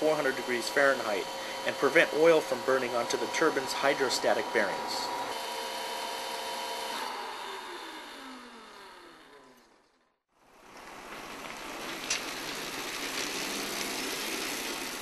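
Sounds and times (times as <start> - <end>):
gas turbine winding down: 0.0 - 15.0.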